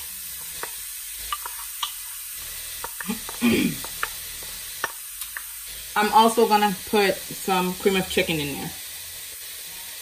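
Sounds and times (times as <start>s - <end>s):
vegetables sizzling in skillet: 0.0s - 10.0s.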